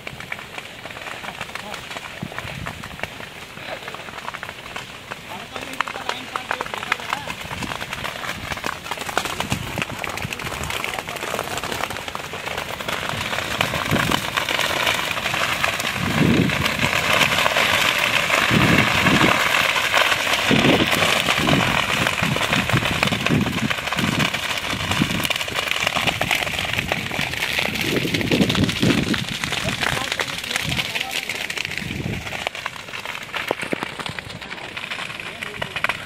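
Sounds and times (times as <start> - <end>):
sugarcane crackling while burning: 0.0 - 36.0.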